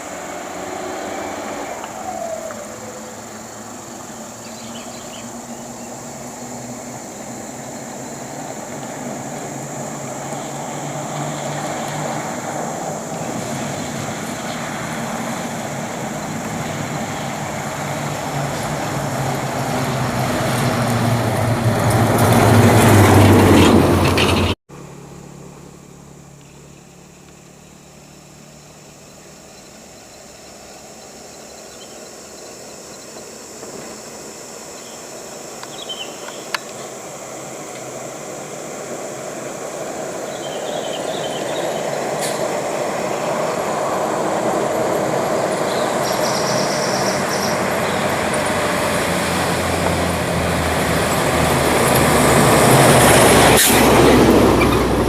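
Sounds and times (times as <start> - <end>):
logging truck engine: 0.0 - 31.3, 32.8 - 55.0.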